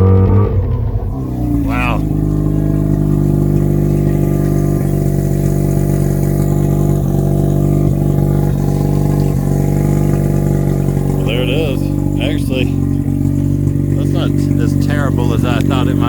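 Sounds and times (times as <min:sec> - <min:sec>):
rotary engine idling loud: 0:00.0 - 0:16.0.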